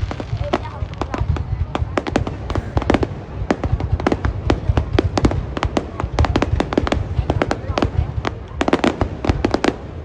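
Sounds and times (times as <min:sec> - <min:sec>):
fireworks bangs and cracks: 0:00.0 - 0:10.0
low rumble of fireworks: 0:00.0 - 0:10.0.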